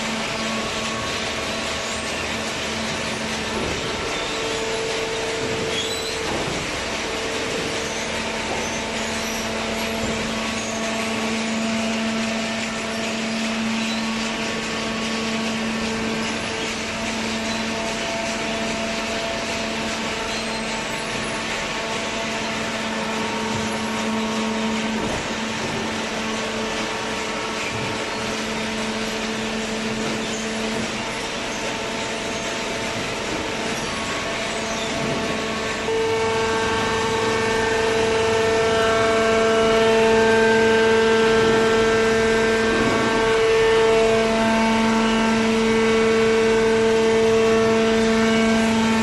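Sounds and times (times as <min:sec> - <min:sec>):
continuous machine noise: 0:00.0 - 0:49.0
hydraulic power unit hum: 0:00.0 - 0:49.0.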